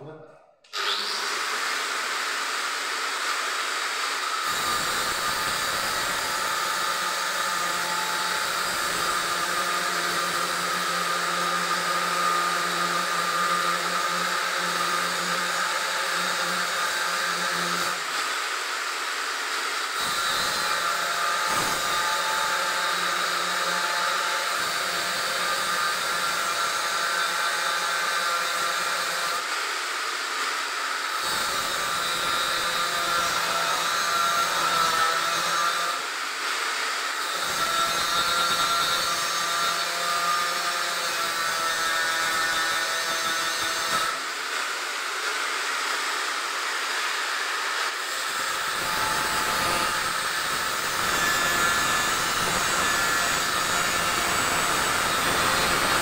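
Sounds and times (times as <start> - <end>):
angle grinder grinding steel: 0.7 - 56.0.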